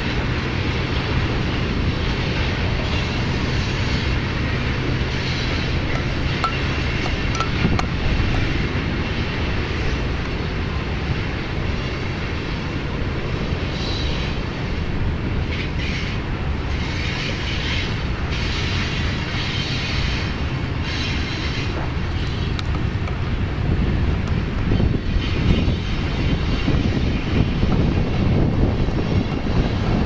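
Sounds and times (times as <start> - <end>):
freight train wheels rumbling on rail: 0.0 - 30.0.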